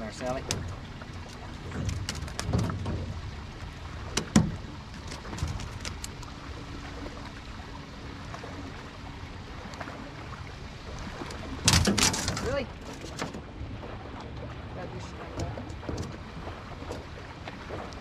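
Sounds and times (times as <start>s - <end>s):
wind and water rumble: 0.0s - 18.0s.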